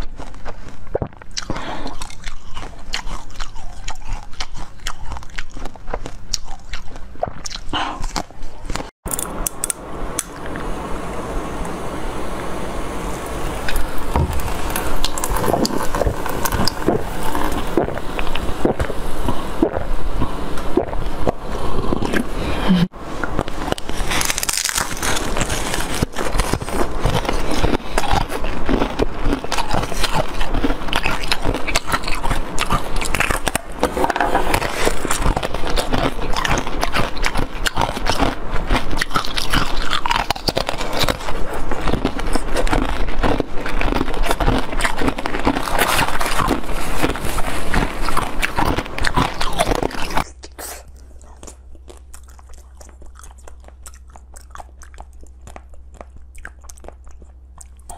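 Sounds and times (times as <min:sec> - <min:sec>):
crunchy chewing: 0:00.0 - 0:10.6, 0:13.5 - 0:57.9
low hum: 0:07.8 - 0:37.0, 0:39.4 - 0:57.9.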